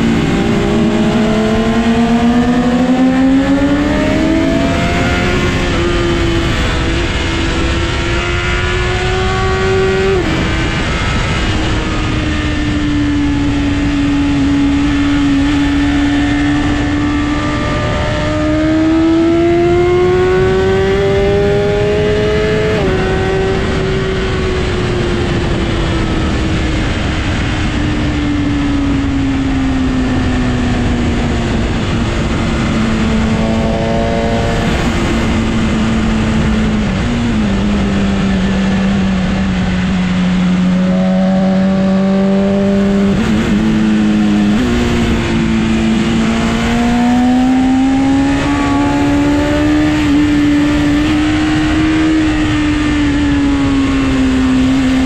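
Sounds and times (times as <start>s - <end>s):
motorbike engine accelerating: 0.0s - 55.0s
wind rush: 0.0s - 55.0s.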